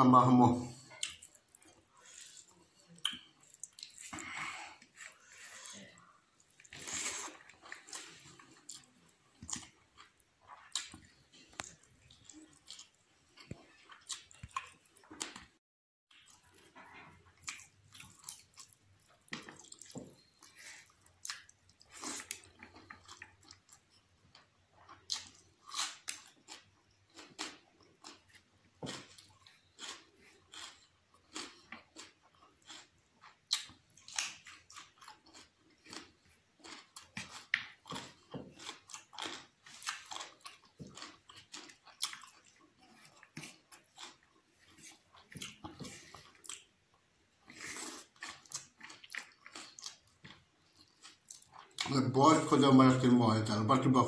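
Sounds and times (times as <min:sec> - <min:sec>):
chewing with wet mouth smacks: 0:00.9 - 0:15.5, 0:16.1 - 0:46.7, 0:47.4 - 0:51.9.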